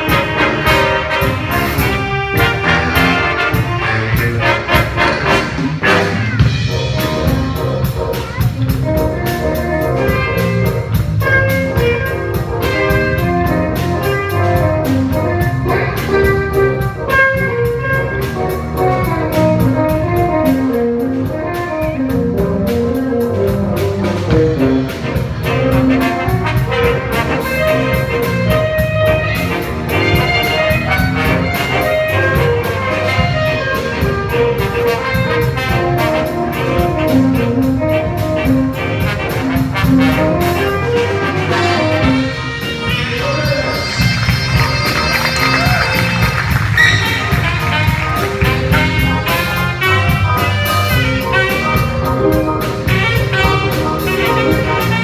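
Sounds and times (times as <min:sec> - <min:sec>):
jazz brass melody: 0:00.0 - 0:55.0
steady drum beat: 0:00.0 - 0:55.0.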